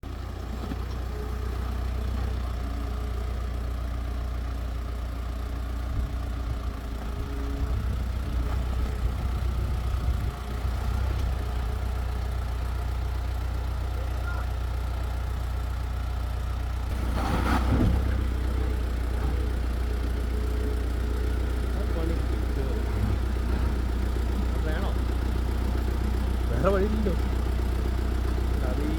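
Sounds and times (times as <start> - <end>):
vehicle engine rumbling: 0.0 - 28.9.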